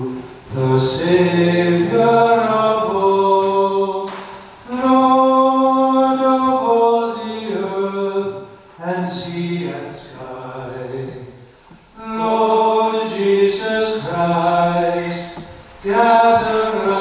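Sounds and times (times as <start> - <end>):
person singing a slow hymn: 0.0 - 17.0.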